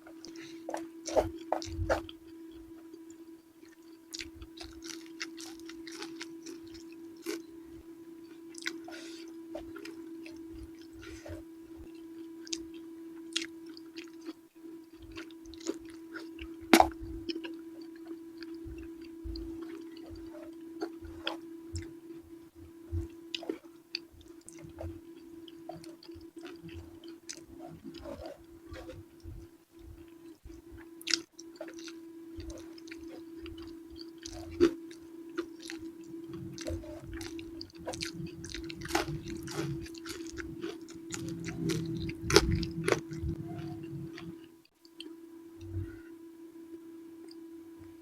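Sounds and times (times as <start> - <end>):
low electrical hum: 0.0 - 48.0
chewing and mouth smacks: 3.0 - 7.4, 8.5 - 8.9, 9.6 - 21.9, 22.9 - 45.1.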